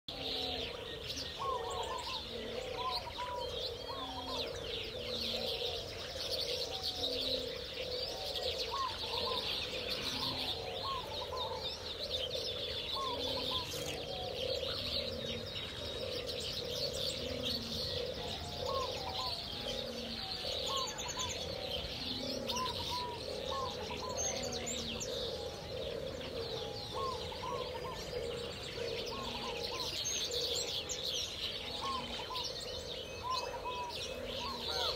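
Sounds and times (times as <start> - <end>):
small birds chirping: 0.0 - 34.9
doves cooing: 0.1 - 34.9.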